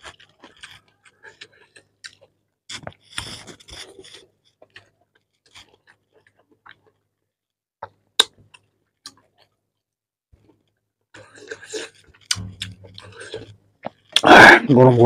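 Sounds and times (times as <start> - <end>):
soft chewing: 0.0 - 14.2.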